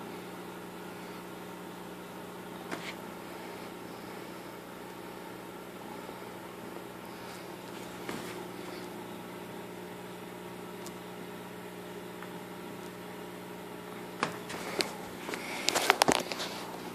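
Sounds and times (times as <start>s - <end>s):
aquarium pump motor hum: 0.0s - 16.9s.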